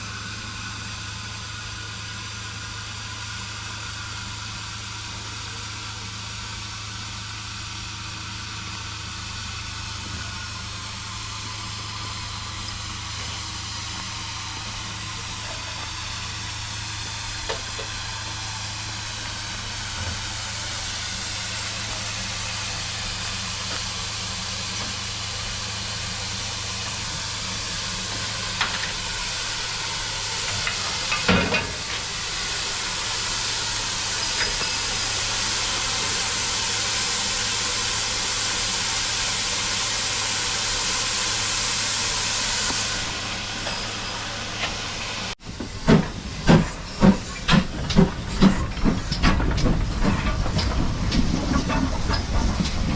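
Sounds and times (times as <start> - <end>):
steam locomotive hissing: 0.0 - 52.9.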